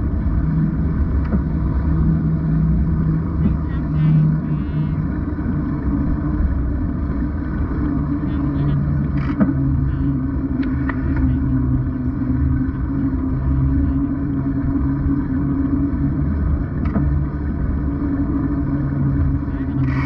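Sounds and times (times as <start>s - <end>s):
muffled wind and road rumble: 0.0s - 20.0s.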